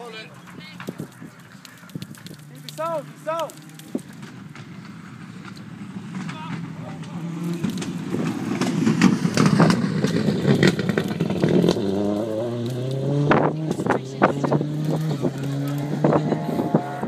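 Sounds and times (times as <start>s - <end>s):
sharp cracks and clatter: 0.3s - 16.2s
rally car engine revving: 0.4s - 17.0s.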